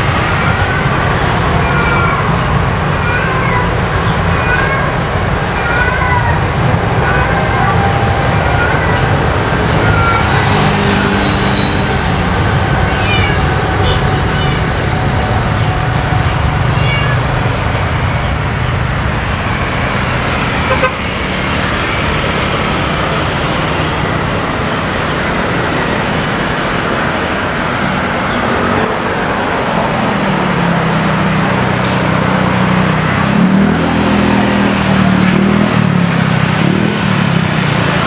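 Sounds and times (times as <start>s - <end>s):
low engine drone wavering: 0.0s - 38.0s
road traffic noise: 0.0s - 38.0s.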